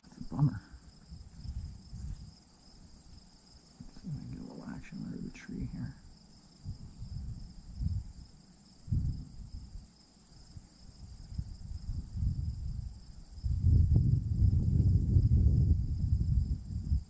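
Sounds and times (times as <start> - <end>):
insect chorus trilling: 0.0 - 17.0
low rumbling microphone noise: 0.0 - 17.0.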